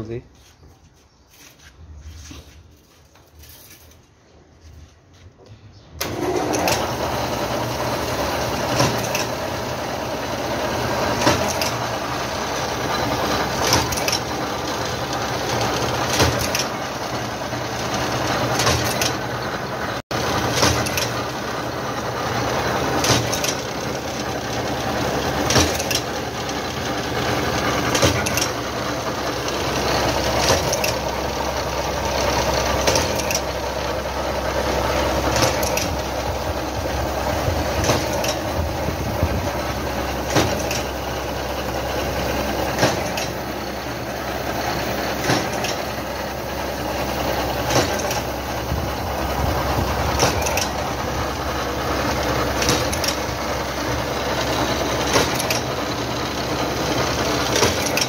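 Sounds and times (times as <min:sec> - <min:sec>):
wire machine mechanical din: 0:06.0 - 0:58.0.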